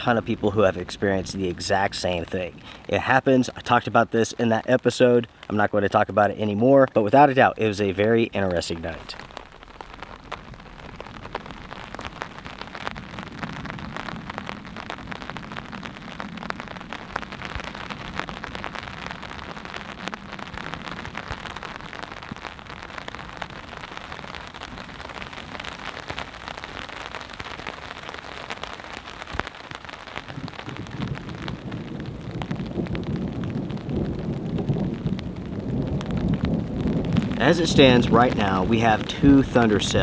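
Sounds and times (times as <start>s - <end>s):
distant thunder rumble: 0.0s - 27.1s, 30.1s - 40.0s
rain pattering on a tarp: 0.0s - 40.0s.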